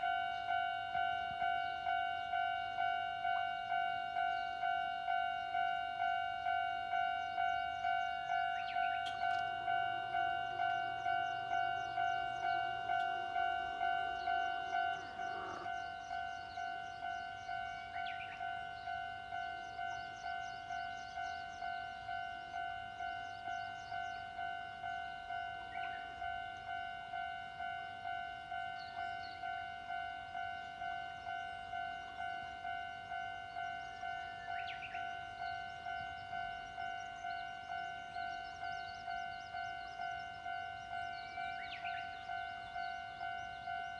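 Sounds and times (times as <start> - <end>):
level crossing warning bell ringing: 0.0 - 43.9
train passing: 0.0 - 43.9.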